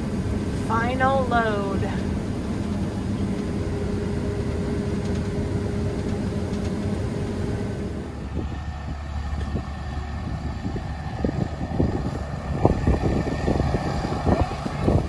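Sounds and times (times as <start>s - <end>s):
combine engine hum: 0.0s - 15.0s.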